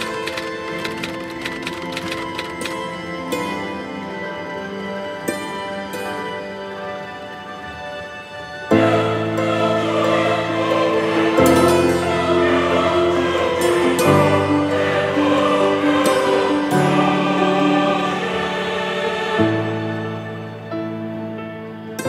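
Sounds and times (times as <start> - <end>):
slow sustained music chords: 0.0 - 22.0.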